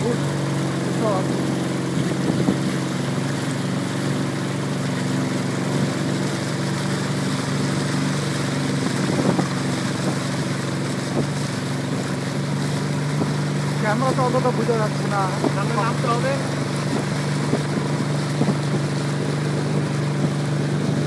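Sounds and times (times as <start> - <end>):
boat engine droning: 0.0 - 21.0
rushing water noise: 0.0 - 21.0.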